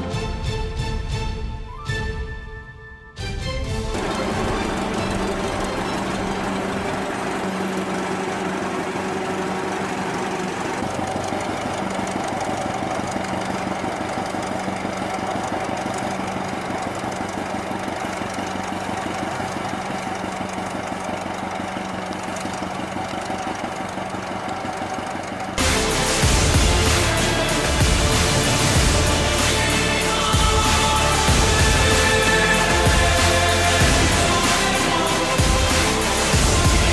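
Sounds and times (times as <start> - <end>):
tractor engine running under load: 3.6 - 36.9.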